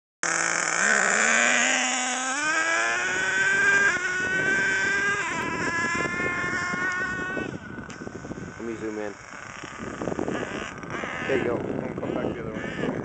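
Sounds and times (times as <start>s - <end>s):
nitro engine revving: 0.2s - 13.0s.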